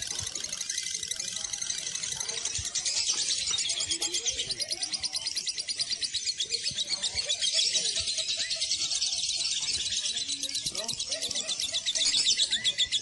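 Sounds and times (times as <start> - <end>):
lovebird chattering trill: 0.5 - 13.0.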